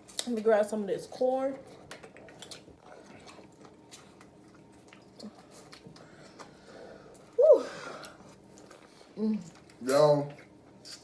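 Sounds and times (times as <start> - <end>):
soft chewing: 1.5 - 7.4, 8.0 - 11.0.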